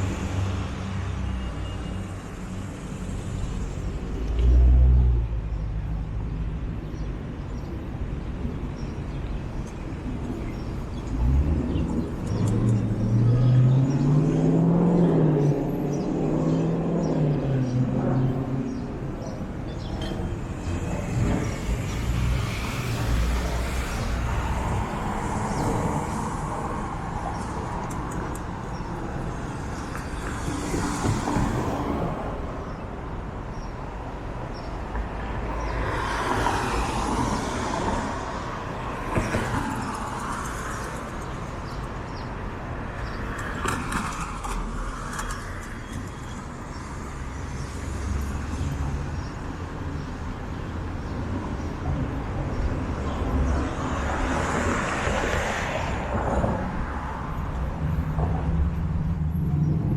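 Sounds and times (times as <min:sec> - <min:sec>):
cars passing by: 0:00.0 - 0:59.9.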